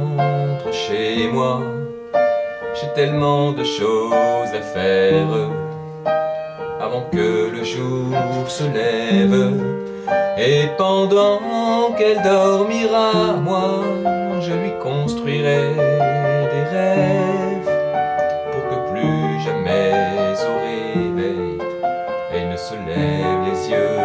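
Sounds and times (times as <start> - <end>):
piano chords and melody: 0.0 - 24.0.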